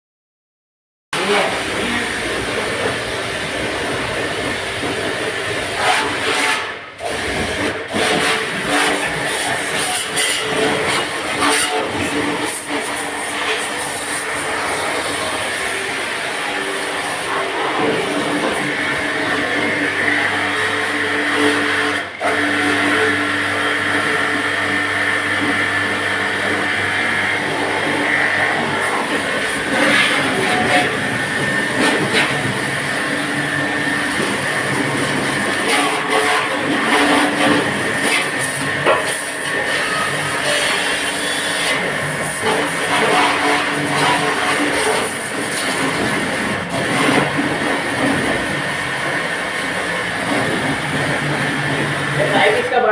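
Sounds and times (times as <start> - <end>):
pressure washer jet hissing: 1.4 - 52.6.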